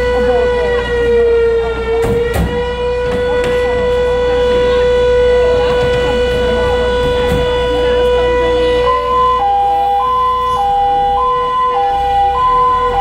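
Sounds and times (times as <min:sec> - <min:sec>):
fire alarm siren steady tone: 0:00.0 - 0:13.0.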